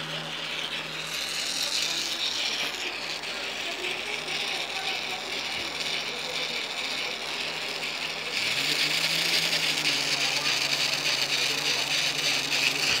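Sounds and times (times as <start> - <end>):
model engine clattering rattle: 0.0 - 13.0.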